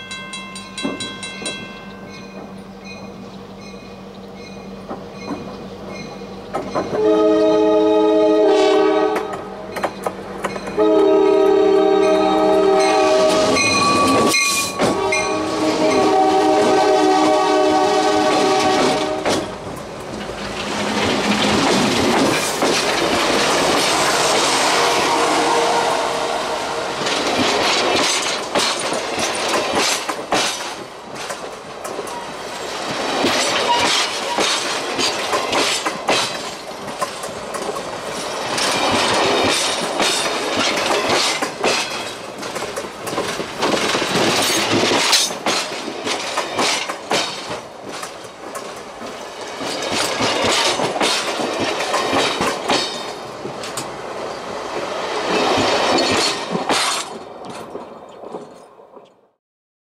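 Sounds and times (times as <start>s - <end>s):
clickety-clack over rail joints: 0.0s - 7.2s, 9.1s - 10.8s, 12.0s - 17.3s, 18.0s - 24.4s, 27.0s - 54.0s, 54.7s - 59.3s
steel wheels grinding on rails: 9.1s - 58.6s.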